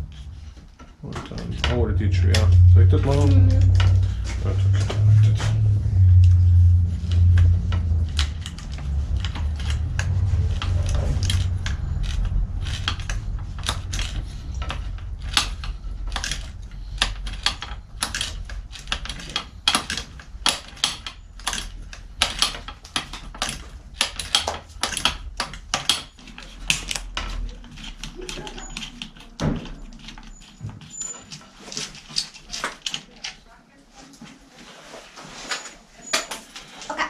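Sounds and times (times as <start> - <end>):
low rumble: 0.0 - 30.3.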